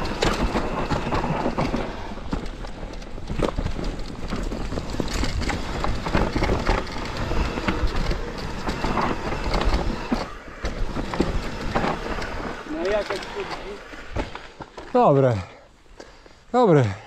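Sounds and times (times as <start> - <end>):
bike knocks and rattles: 0.0 - 15.0
tyres rumbling over rough ground: 0.0 - 17.0.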